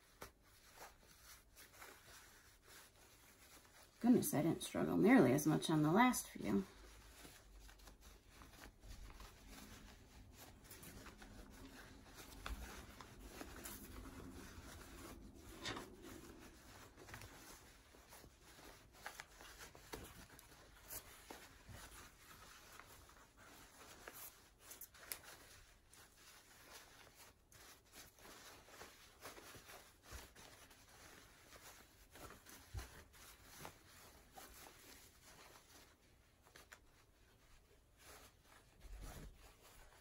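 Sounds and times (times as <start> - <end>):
fabric rustling: 0.0 - 40.0.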